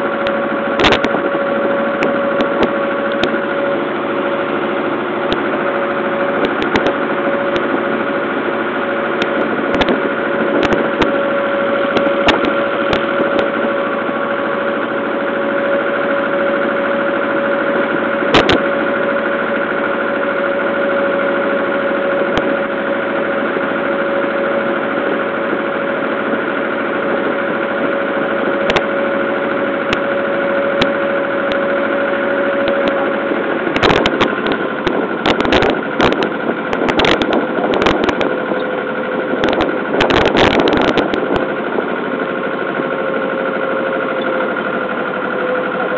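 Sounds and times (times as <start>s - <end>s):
boat engine humming drone: 0.0s - 45.9s.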